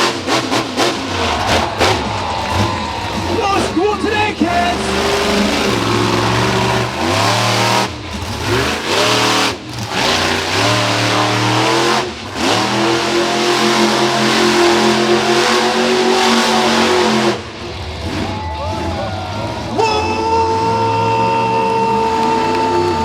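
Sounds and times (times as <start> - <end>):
truck engine revving hard: 0.0 - 23.0.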